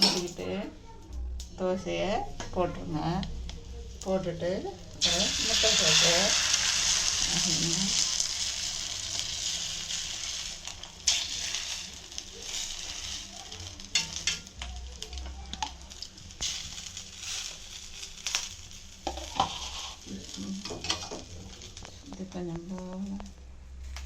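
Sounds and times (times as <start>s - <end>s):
batter sizzling in oil: 3.6s - 23.2s.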